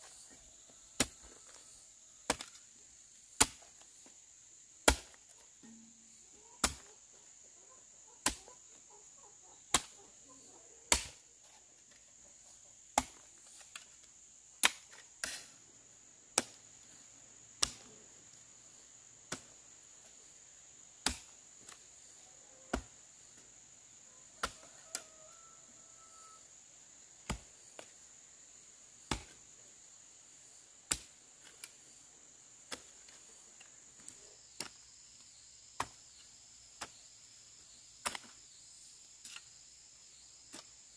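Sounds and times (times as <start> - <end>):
high insect trill: 0.0 - 40.9.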